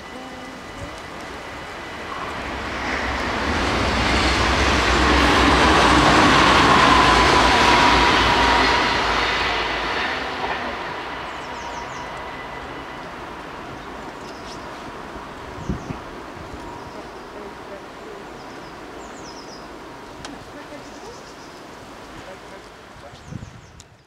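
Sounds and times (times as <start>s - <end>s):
train rail noise: 0.0s - 23.4s
train whine: 0.0s - 23.8s.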